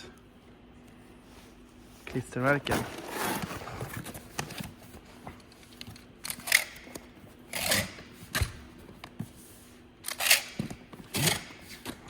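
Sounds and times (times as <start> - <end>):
faint steady hum: 0.0 - 12.0
rustling and scraping packing: 1.0 - 12.0.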